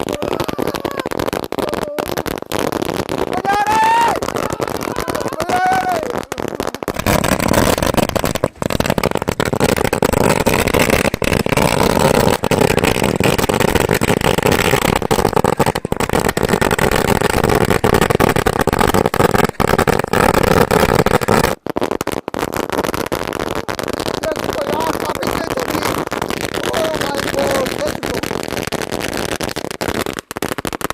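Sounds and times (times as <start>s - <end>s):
firecrackers bursting in rapid crackle: 0.0s - 30.9s.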